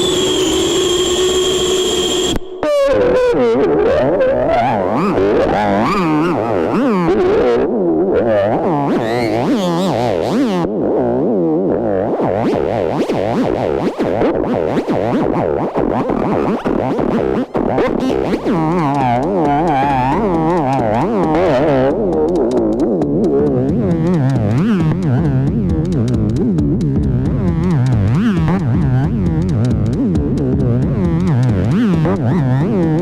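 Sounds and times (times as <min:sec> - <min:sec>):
electronic music with wobbling synth: 0:02.5 - 0:33.0.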